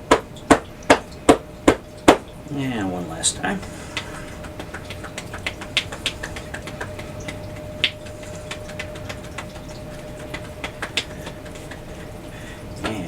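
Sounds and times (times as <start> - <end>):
fingers tapping on body: 0.0 - 2.3, 3.6 - 13.0
faint steady hum: 0.0 - 13.0.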